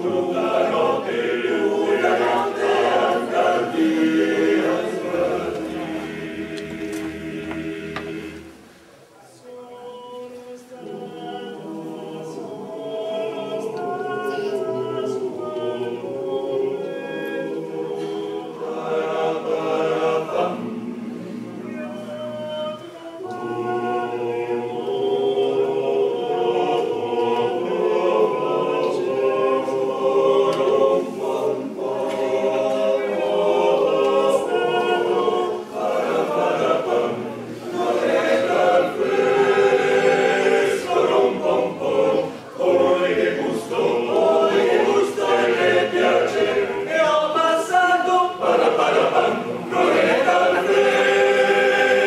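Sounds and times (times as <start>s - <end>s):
male voice choir singing: 0.0s - 8.6s, 9.3s - 52.0s.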